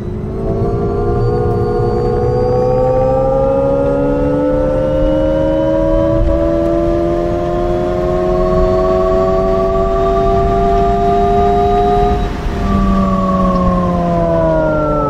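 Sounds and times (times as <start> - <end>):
electric car synthesized tone rising: 0.0 - 15.0.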